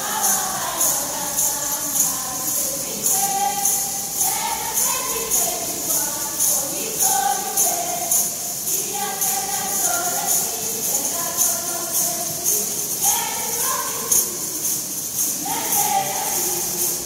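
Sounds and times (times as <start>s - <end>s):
tambourines jingling in a beat: 0.0s - 17.0s
voices singing: 0.0s - 17.0s.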